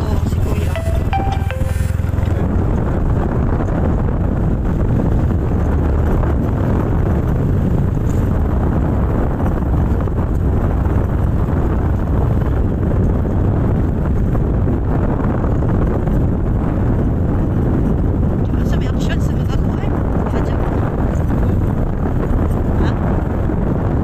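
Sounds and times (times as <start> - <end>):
wind buffeting microphone: 0.0 - 0.8, 1.8 - 24.0
vehicle road noise: 0.0 - 24.0.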